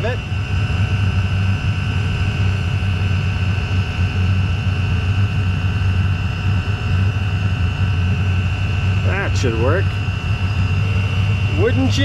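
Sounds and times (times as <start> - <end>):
heater burner rumble: 0.0 - 12.0
high-pitched whine: 0.0 - 12.0.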